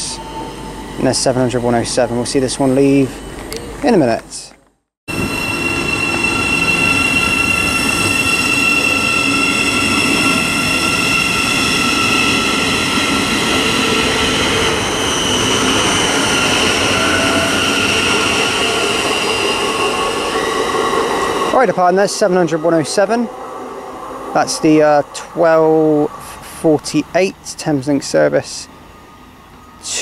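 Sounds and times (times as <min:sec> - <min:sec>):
electric traction whine: 0:05.1 - 0:30.0
train rumble: 0:05.1 - 0:30.0.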